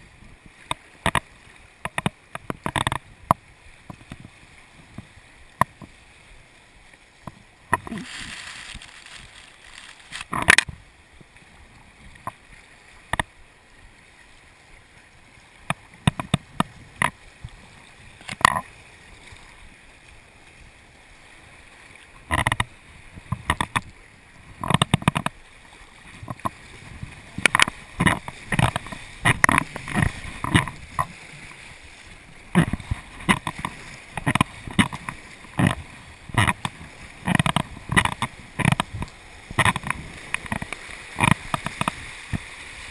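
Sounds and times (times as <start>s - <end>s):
paddle splashes: 0.0s - 42.9s
rushing river water: 0.0s - 42.9s
waves slapping kayak bow: 0.0s - 42.9s.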